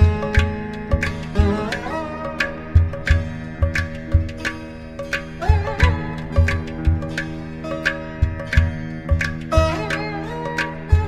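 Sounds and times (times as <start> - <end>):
low drum beats: 0.0 - 10.1
plucked strings: 0.0 - 11.0.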